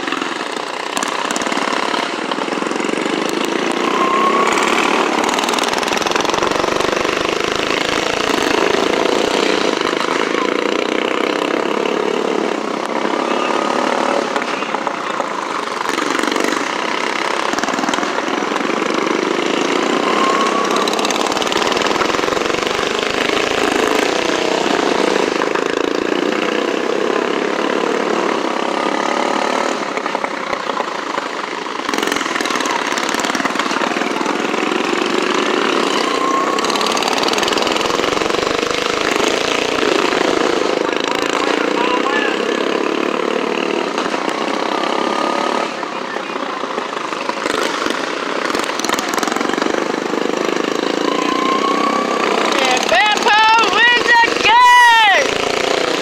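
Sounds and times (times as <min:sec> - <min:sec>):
small gasoline engines running: 0:00.0 - 0:56.0.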